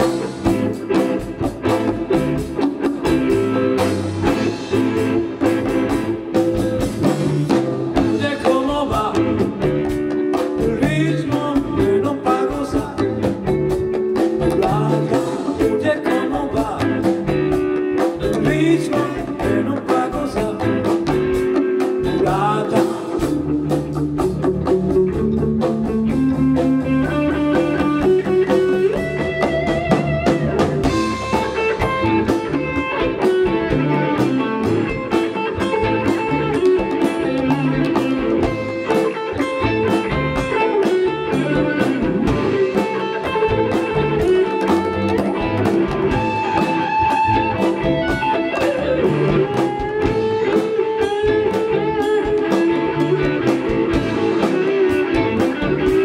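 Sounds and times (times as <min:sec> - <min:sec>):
lead guitar bending notes: 0:00.0 - 0:56.0
live blues-rock band playing: 0:00.0 - 0:56.0.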